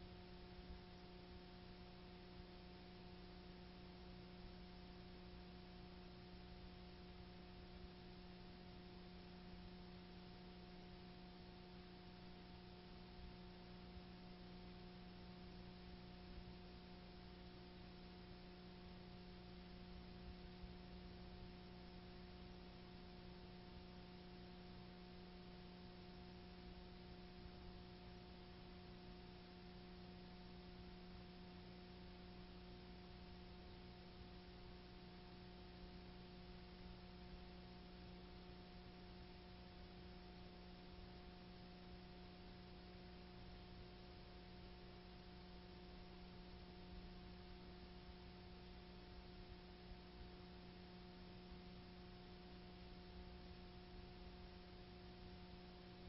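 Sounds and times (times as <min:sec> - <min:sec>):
faint electrical hum with hiss: 0:00.0 - 0:56.0.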